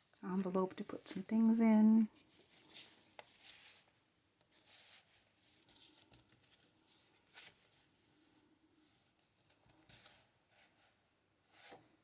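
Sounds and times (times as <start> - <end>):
soft paper rustling: 0.0 - 12.0.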